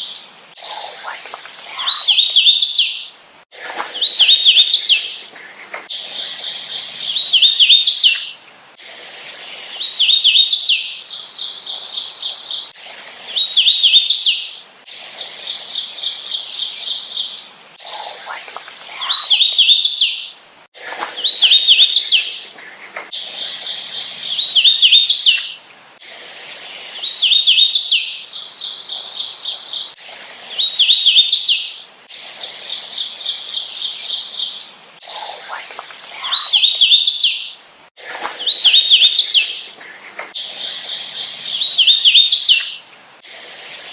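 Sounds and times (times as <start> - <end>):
warbler singing: 0.0 - 8.4, 9.4 - 20.4, 21.0 - 25.6, 26.6 - 31.9, 32.6 - 42.9.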